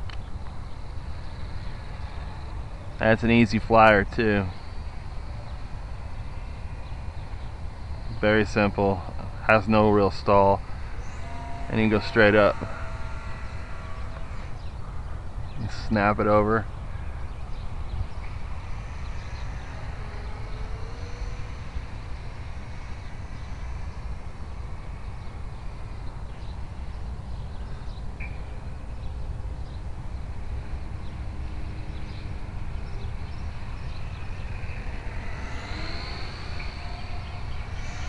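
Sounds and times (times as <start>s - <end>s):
low rumble: 0.0s - 38.0s
model plane motor whining: 0.0s - 38.0s.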